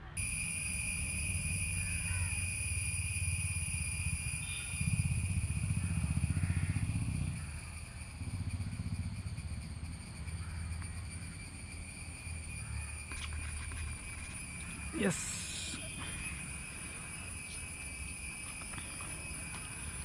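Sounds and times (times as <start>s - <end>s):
low pulsing engine rumble: 0.2s - 20.0s.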